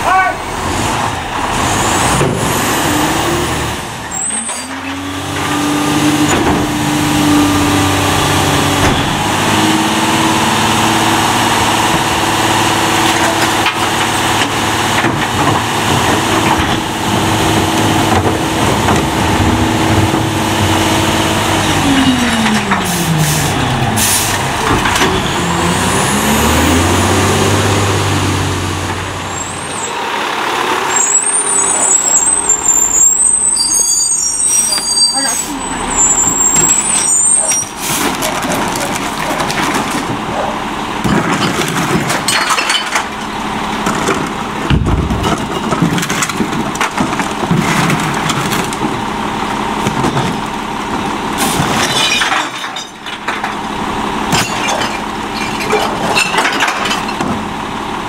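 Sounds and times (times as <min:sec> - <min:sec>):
garbage truck diesel engine revving: 0:00.0 - 0:58.0.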